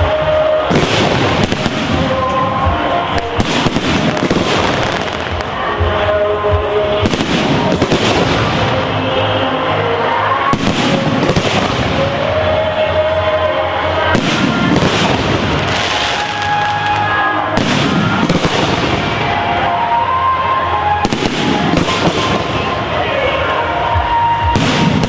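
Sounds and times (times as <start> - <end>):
fireworks banging: 0.0 - 12.9, 14.0 - 25.0
fireworks crackling: 0.0 - 25.0
music playing: 0.0 - 25.0.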